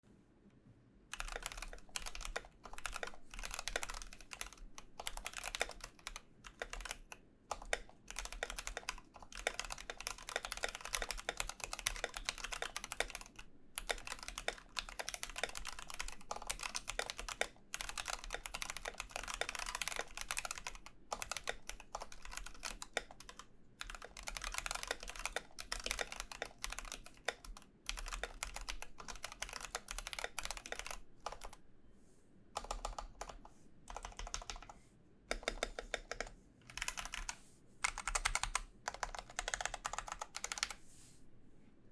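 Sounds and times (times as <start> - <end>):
typing on mechanical keyboard: 1.1 - 31.6, 32.6 - 40.8.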